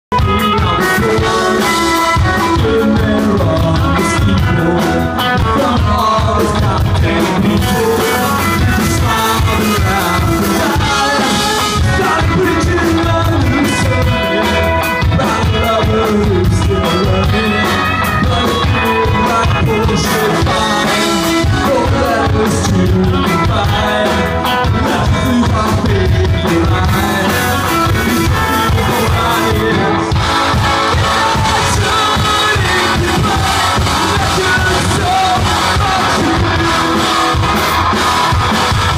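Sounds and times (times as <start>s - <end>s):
rock band playing live: 0.1s - 38.9s.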